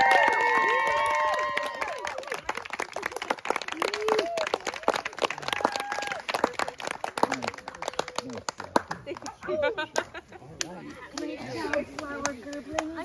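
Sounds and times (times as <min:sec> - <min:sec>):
people clapping: 0:00.0 - 0:13.0.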